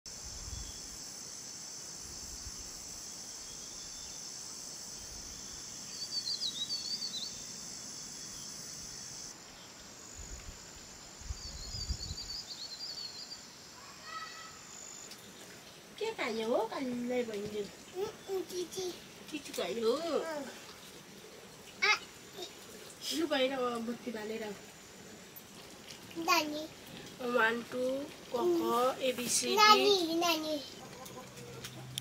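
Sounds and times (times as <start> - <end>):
high-pitched insect chorus: 0.1 - 31.3.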